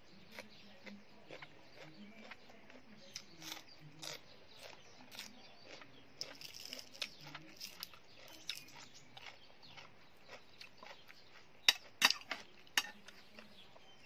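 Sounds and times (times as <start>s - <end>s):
person chewing crunchy food: 0.3s - 14.0s.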